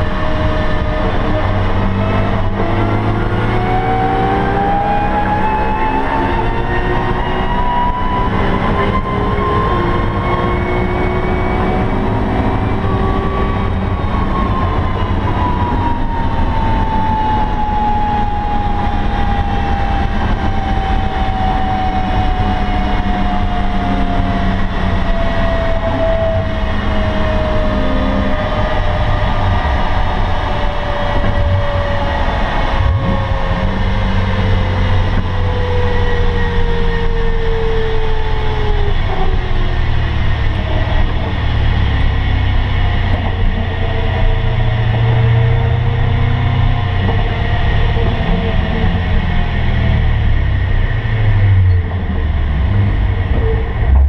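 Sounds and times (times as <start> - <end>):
car engine at speed: 0.0 - 54.0
wind and road noise: 0.0 - 54.0.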